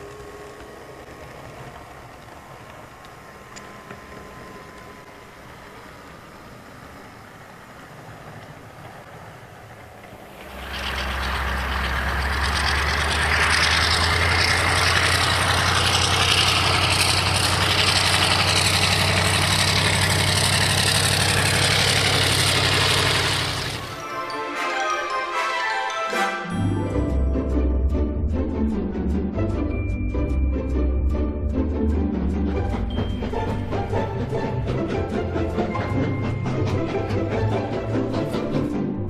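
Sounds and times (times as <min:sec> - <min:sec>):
diesel locomotive engine running: 0:00.0 - 0:24.4, 0:26.5 - 0:39.0.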